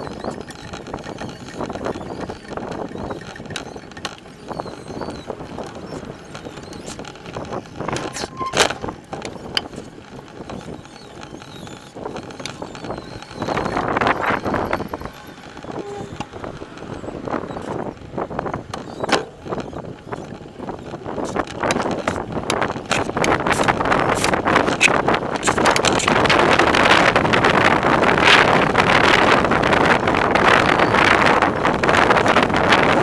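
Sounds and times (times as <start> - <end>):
bike rattling and knocking: 0.0 - 33.0
tyre and wind noise: 0.0 - 33.0.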